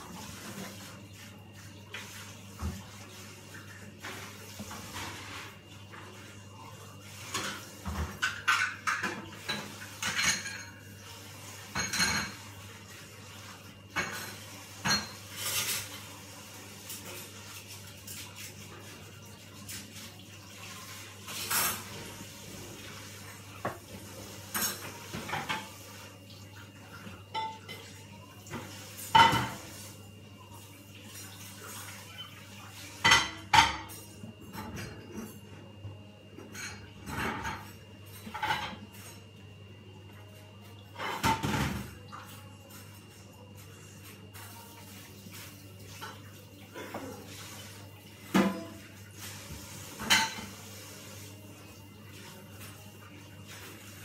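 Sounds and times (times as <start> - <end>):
dishes and utensils clinking: 0.0 - 39.5, 40.1 - 54.0.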